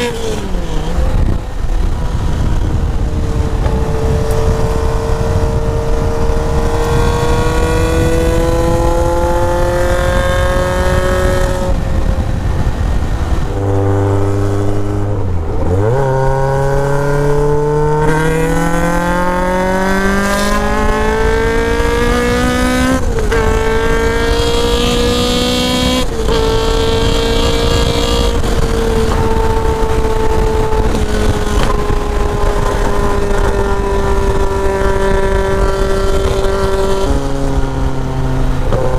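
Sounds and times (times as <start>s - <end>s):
car engine under way: 0.0s - 38.9s
wind noise: 0.0s - 38.9s.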